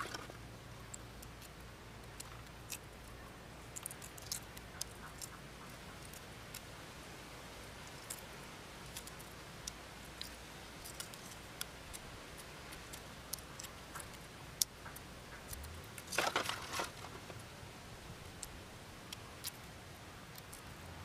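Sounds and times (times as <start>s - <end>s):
eggshell crackling as peeled: 0.0s - 6.7s, 7.8s - 17.5s, 18.2s - 20.7s.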